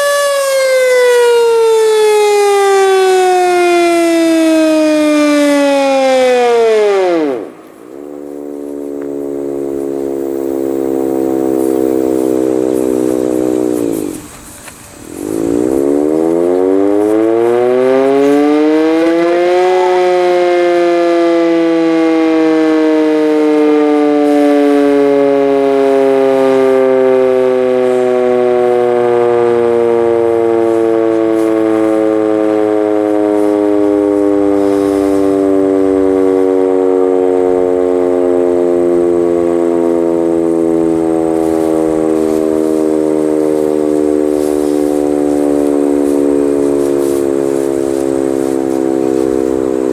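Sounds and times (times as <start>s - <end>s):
warning siren wailing: 0.0s - 14.4s, 15.1s - 49.9s.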